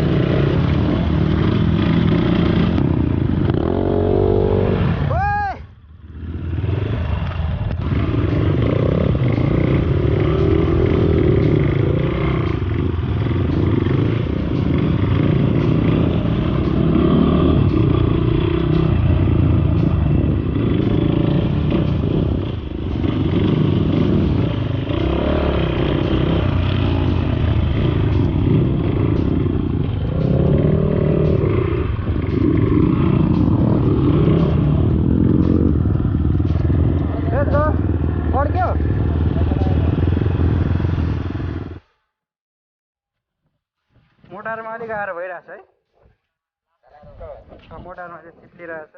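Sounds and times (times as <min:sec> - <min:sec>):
motorcycle engine revving: 0:00.0 - 0:42.2.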